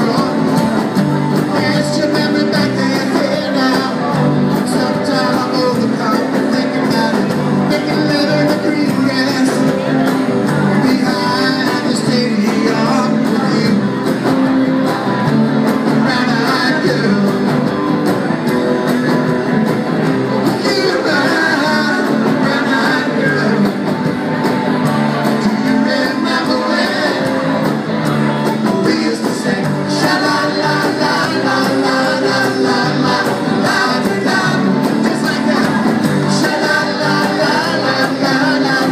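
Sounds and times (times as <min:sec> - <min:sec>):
lead singer: 0:00.0 - 0:38.9
live rock band playing: 0:00.0 - 0:38.9
strummed acoustic guitar: 0:00.0 - 0:38.9.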